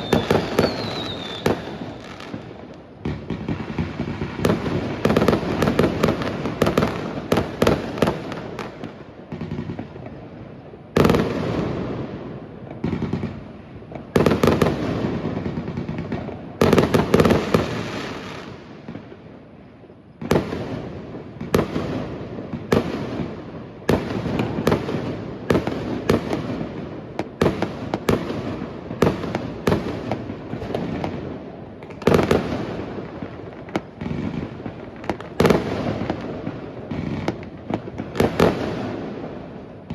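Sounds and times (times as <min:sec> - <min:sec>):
fireworks bangs echoing: 0:00.0 - 0:19.3, 0:20.2 - 0:39.9.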